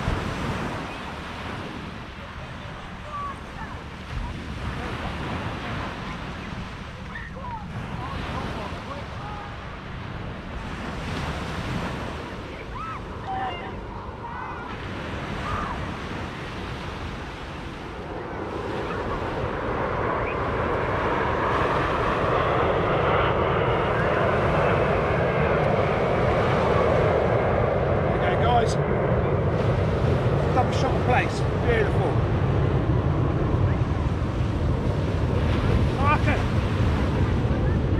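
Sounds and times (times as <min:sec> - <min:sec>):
small waves breaking on shore: 0:00.0 - 0:37.9
wind buffeting microphone: 0:00.0 - 0:37.9.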